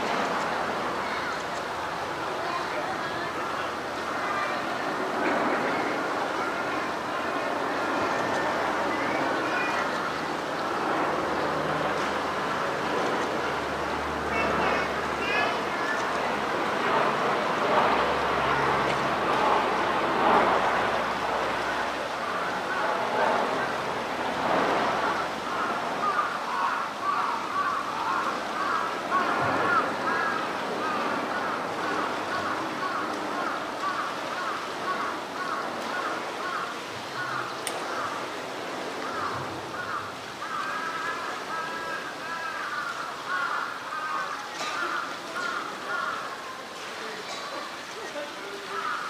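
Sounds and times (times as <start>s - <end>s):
faint distant voices: 0.0s - 49.0s
rushing water: 0.0s - 49.0s.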